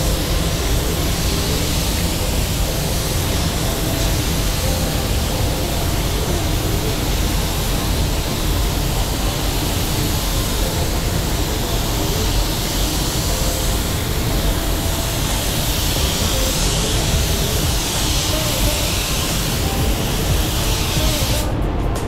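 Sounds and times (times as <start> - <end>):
spray gun air hiss: 0.0 - 21.6.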